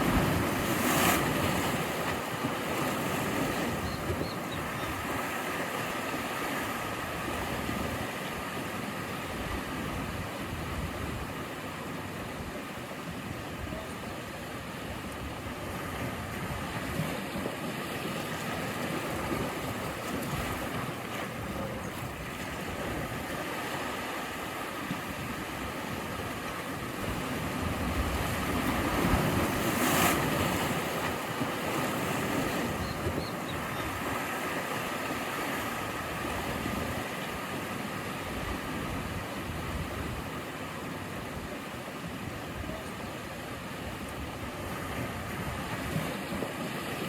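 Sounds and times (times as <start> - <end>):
sea waves breaking on shore: 0.0 - 47.0.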